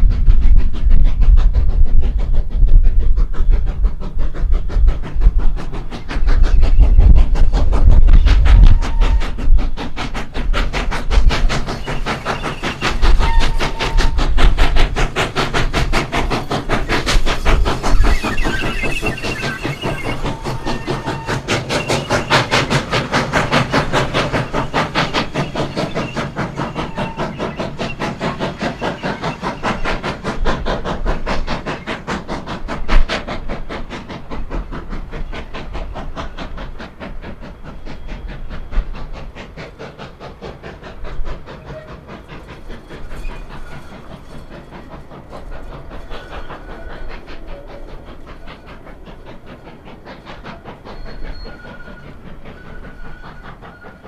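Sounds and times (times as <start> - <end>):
steam hiss: 0.0 - 54.0
steam locomotive chuffing: 0.0 - 54.0.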